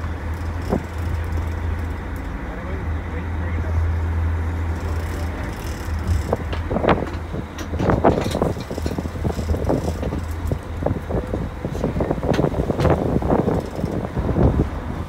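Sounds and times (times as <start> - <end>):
boat engine droning: 0.0 - 15.0
churning water: 0.0 - 15.0.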